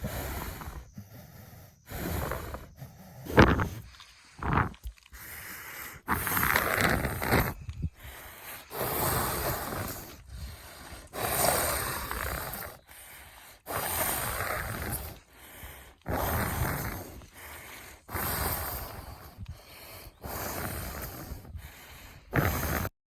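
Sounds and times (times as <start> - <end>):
cow breathing heavily and snorting: 0.0 - 22.9.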